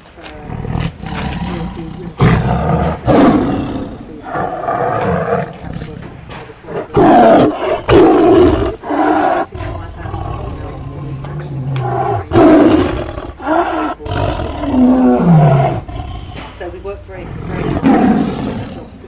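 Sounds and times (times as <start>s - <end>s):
tiger roaring and growling: 0.3s - 19.0s.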